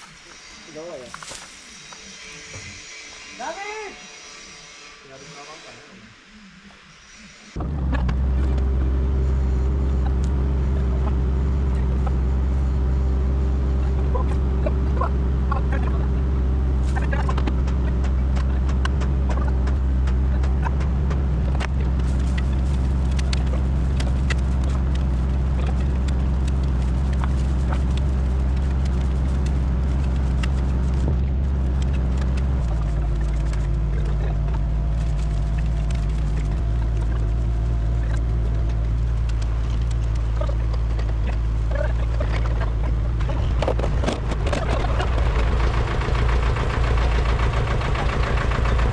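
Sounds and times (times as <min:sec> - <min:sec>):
engine running steadily: 0:07.5 - 0:48.9.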